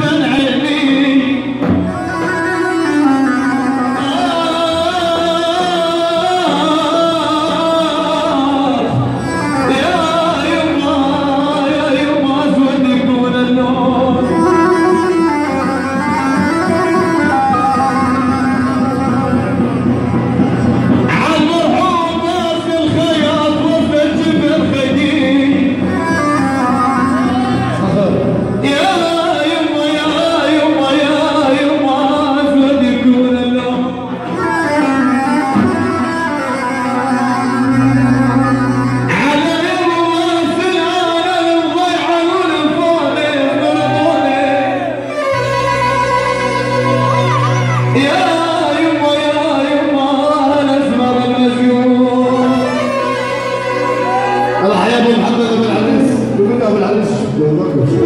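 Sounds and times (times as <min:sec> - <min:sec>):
instrumental backing music: 0:00.0 - 0:58.0
man singing into microphone: 0:00.0 - 0:58.0.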